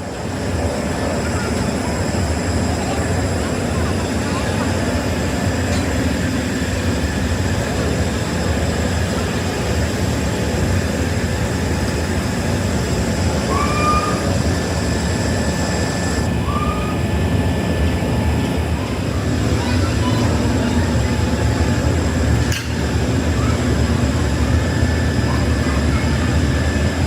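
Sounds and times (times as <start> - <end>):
heavy machinery humming: 0.0 - 27.0.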